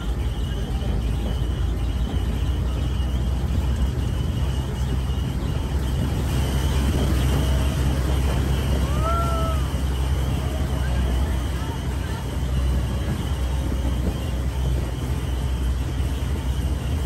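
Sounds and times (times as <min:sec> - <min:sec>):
rail cart rumbling on track: 0:00.0 - 0:17.0.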